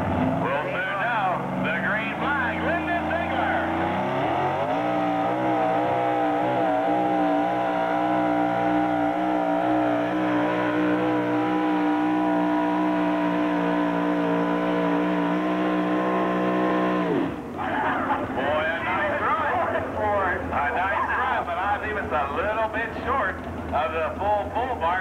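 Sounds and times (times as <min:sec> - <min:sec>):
truck engine revving at full throttle: 0:00.0 - 0:22.2.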